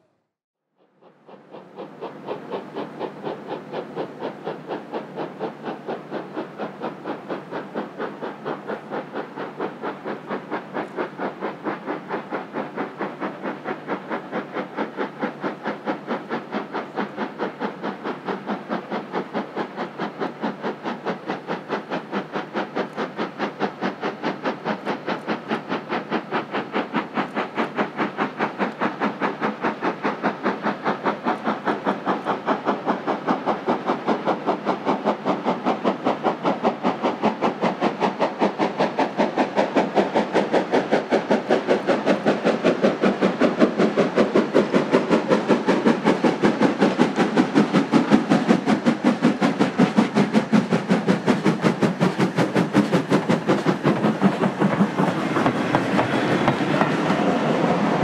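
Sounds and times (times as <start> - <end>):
steam locomotive exhaust beats: 0.8 - 58.0.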